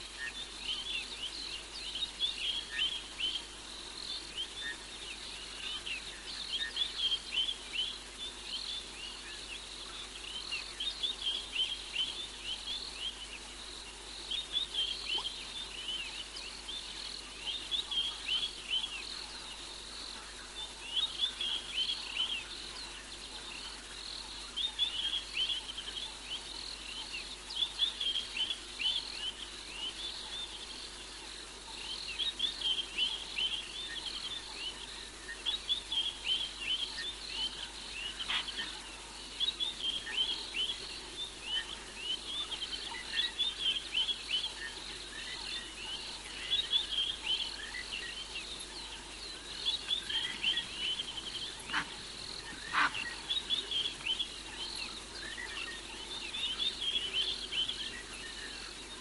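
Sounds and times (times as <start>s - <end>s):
faint steady hiss: 0.0s - 59.0s.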